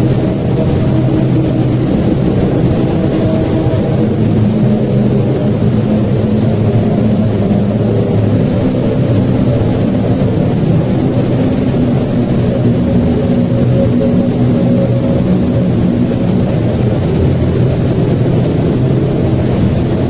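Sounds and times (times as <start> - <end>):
drone of low tones: 0.0 - 20.0
loud low rumble: 0.0 - 20.0.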